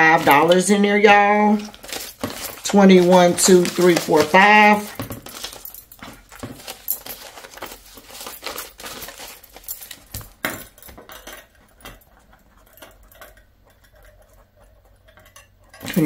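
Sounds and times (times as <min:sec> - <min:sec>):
banknotes rustling and crinkling: 0:00.0 - 0:16.0.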